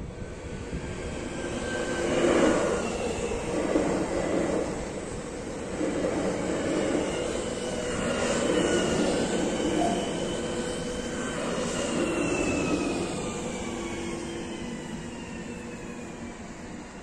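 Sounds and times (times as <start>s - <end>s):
train motor whine: 0.0s - 17.0s
wheels rumbling on rail: 0.0s - 17.0s.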